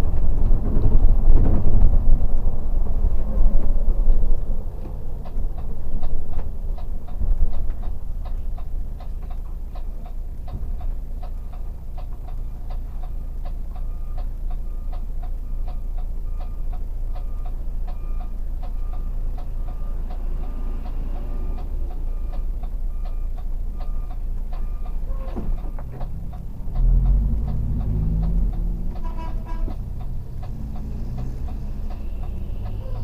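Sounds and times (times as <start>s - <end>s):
bus engine: 0.0s - 33.0s
turn-signal indicator ticking: 4.3s - 33.0s.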